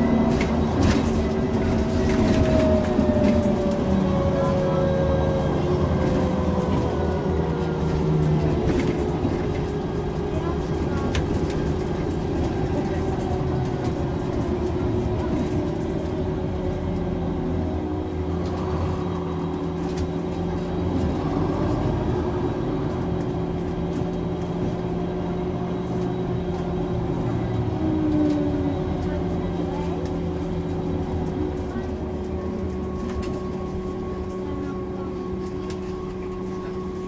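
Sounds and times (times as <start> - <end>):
bus diesel engine running: 0.0 - 37.0
constant whine: 0.0 - 37.0.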